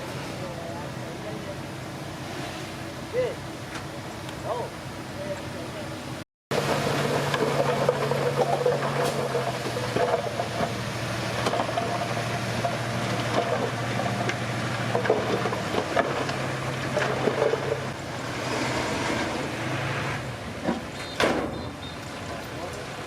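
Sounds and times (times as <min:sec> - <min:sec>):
bulldozer diesel engine running: 0:02.8 - 0:23.0.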